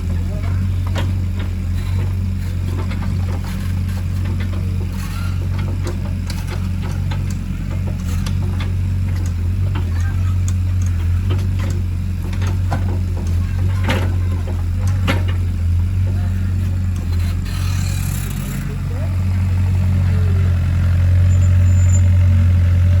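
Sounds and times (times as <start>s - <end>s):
metal knocks and clanks: 0.0s - 20.1s
diesel engine running: 0.0s - 23.0s.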